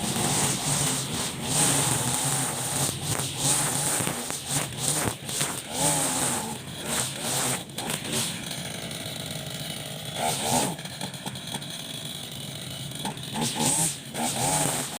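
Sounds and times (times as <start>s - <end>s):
brush cutter engine revving: 0.0s - 15.0s.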